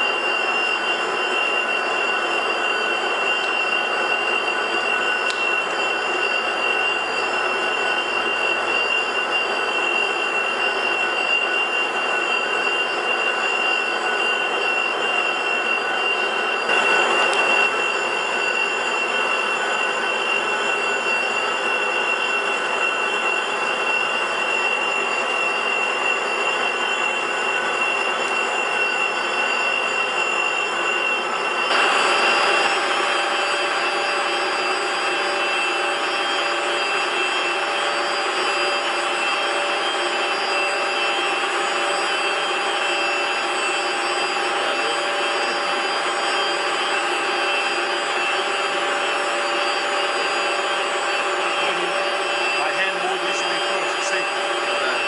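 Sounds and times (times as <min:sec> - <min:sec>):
lathe spindle whine: 0:00.0 - 0:55.0
machine noise: 0:00.0 - 0:55.0.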